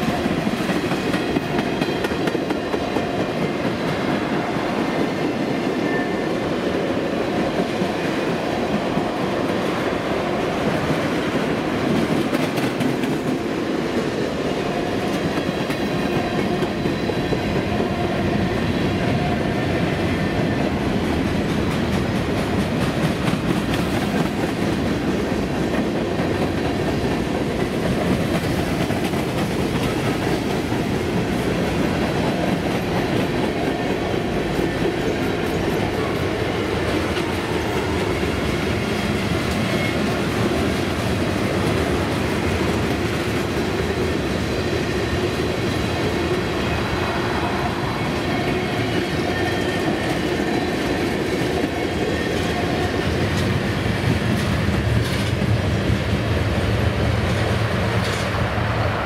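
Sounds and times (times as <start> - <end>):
freight train rolling past: 0.0 - 59.0
steel wheels on rails: 0.0 - 59.0.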